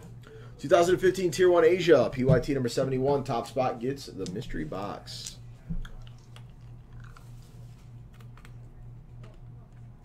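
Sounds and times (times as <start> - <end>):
low pulsing hum: 0.0 - 10.0.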